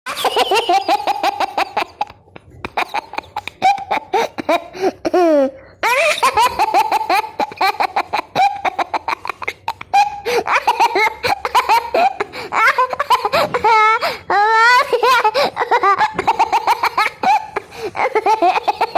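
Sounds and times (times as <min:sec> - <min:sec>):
baby laughing: 0:00.1 - 0:18.9.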